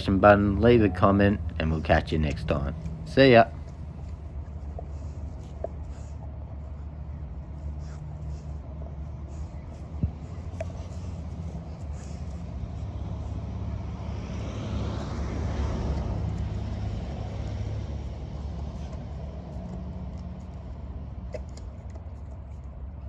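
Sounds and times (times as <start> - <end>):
road vehicle passing: 0.0 - 23.0.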